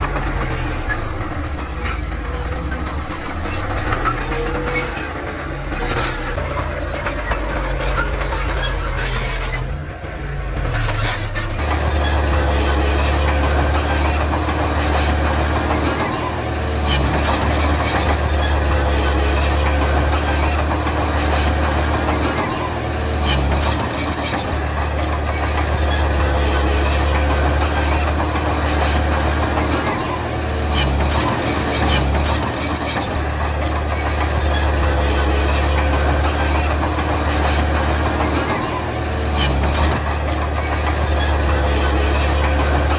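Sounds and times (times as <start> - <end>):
bulldozer diesel engine drone: 0.0 - 42.9
mechanical clatter: 0.0 - 42.9.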